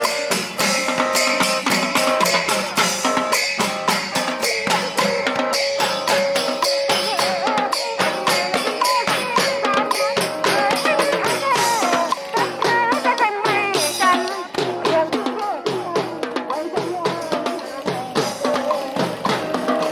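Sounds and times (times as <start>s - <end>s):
drum and tambourine beat: 0.0s - 19.9s
wavering melody line: 2.2s - 19.6s.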